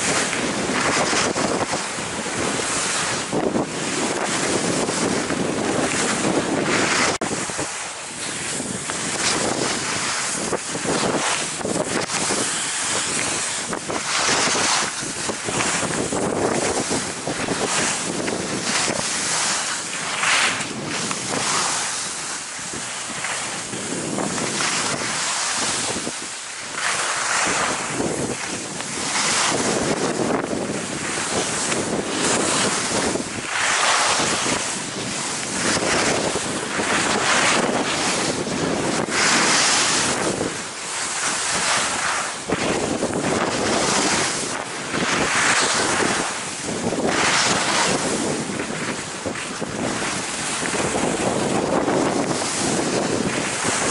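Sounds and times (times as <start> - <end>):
skis scraping on packed snow: 0.0 - 53.9
wind rushing over microphone: 0.0 - 53.9.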